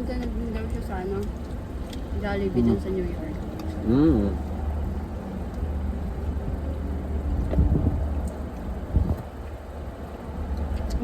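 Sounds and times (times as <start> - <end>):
car idling rumble: 0.0 - 11.0.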